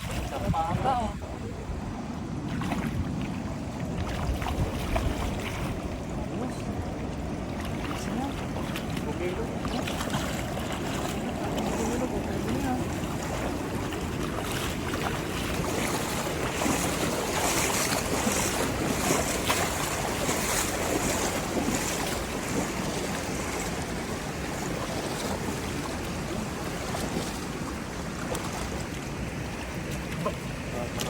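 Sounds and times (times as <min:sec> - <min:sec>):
water rushing: 0:00.0 - 0:31.0
water splashing: 0:00.0 - 0:31.0
wind rumbling on microphone: 0:00.0 - 0:31.0.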